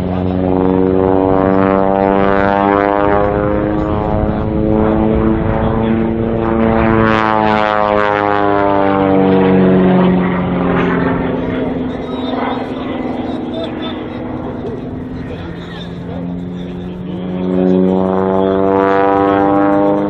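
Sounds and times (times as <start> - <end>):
propeller airplane droning overhead: 0.0 - 20.0.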